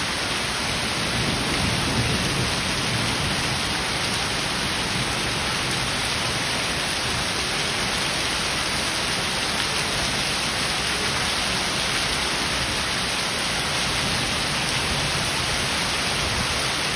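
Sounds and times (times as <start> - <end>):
heavy rain on paving: 0.0 - 16.9.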